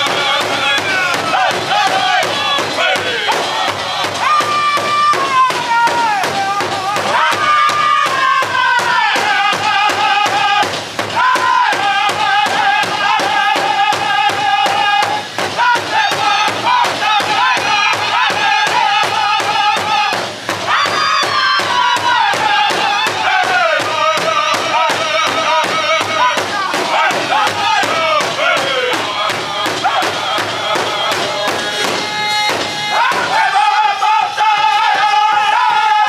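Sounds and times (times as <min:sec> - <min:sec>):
group singing: 0:00.0 - 0:36.0
large drum beating: 0:00.0 - 0:36.0.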